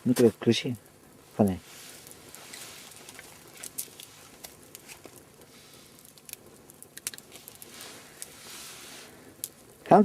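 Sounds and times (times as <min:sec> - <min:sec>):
campfire crackling: 0:00.0 - 0:10.0
faint hiss: 0:00.0 - 0:10.0
sharp pops of fire: 0:01.8 - 0:09.9.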